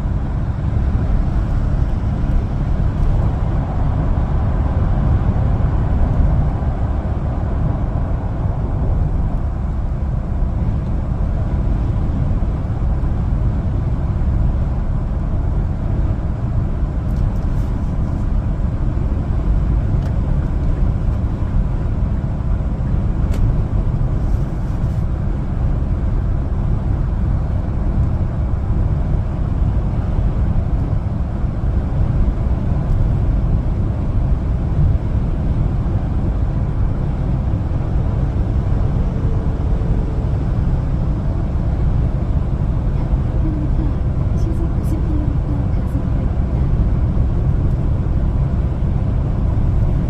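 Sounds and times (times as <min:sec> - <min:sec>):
truck engine and road noise: 0:00.0 - 0:50.0.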